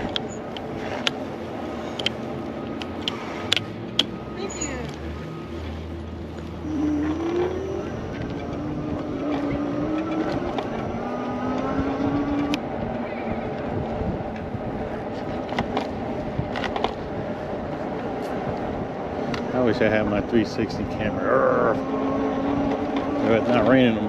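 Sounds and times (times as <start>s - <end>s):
wind and rolling noise: 0.0s - 24.0s.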